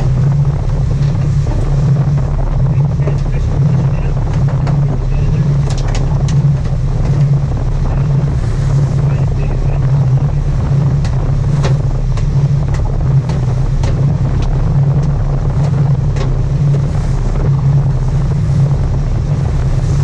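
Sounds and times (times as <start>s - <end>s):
boat engine droning: 0.0s - 20.0s
wind buffeting microphone: 0.0s - 20.0s.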